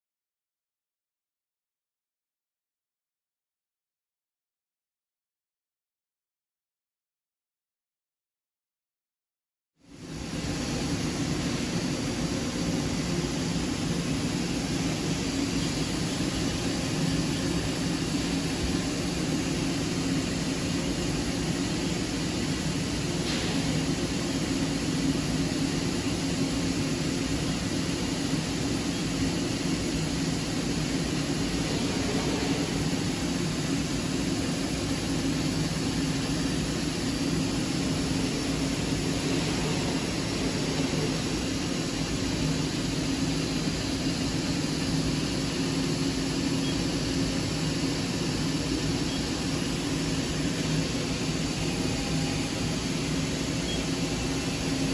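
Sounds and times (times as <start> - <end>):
machine hum and whir: 9.8 - 54.9.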